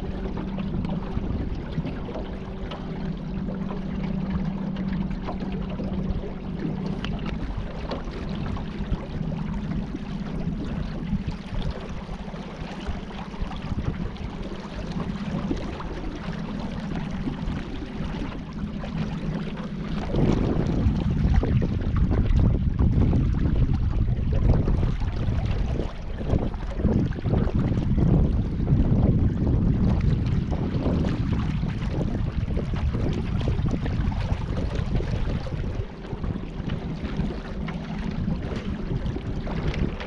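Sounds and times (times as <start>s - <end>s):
water noise: 0.0s - 40.0s
wind buffeting microphone: 0.0s - 40.0s.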